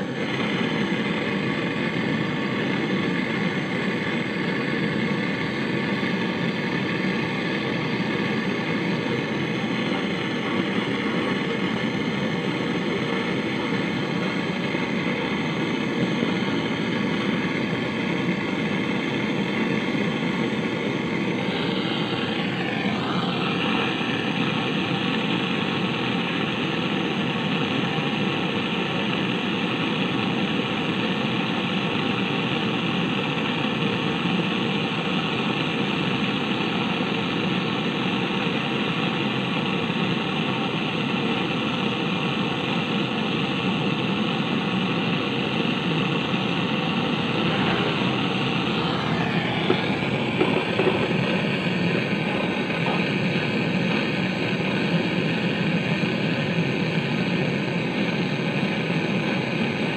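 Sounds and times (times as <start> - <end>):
brazing torch flame rushing: 0.0 - 59.9.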